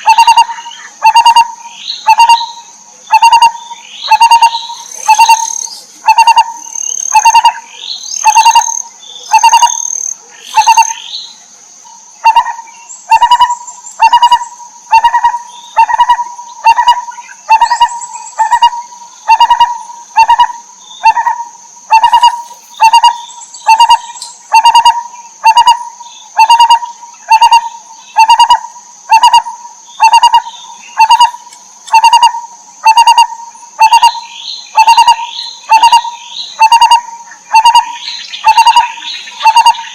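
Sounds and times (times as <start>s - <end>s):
barbet calling: 0.0s - 39.9s
steady high-pitched whine: 0.0s - 39.9s.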